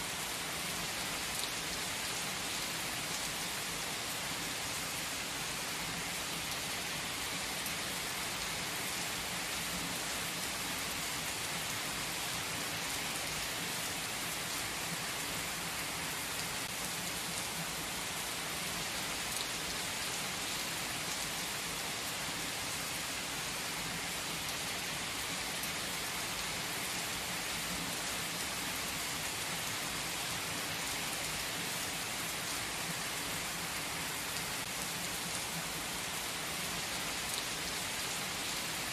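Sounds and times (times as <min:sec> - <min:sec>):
heavy rain on asphalt: 0:00.0 - 0:38.9.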